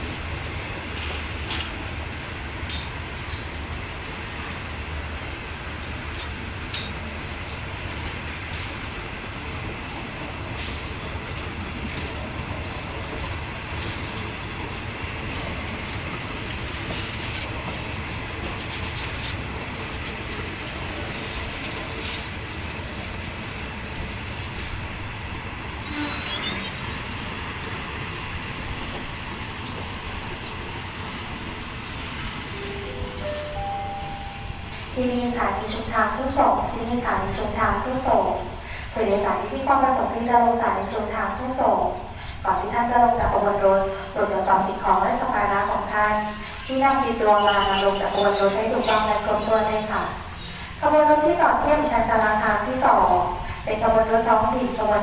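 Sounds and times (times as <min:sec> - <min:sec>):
train rumble and hiss: 0:00.0 - 0:55.0.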